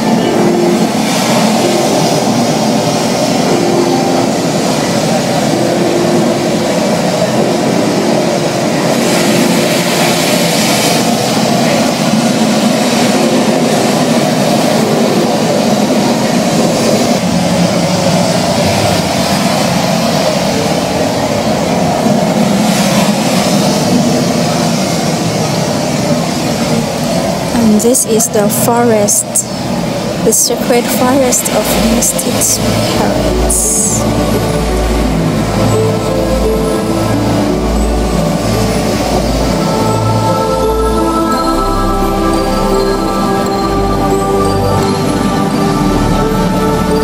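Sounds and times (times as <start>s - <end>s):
ocean waves breaking: 0.0s - 47.0s.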